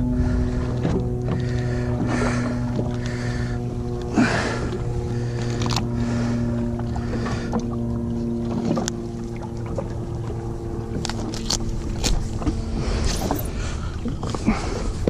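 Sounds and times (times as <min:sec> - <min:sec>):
jet ski engine humming: 0:00.0 - 0:15.0.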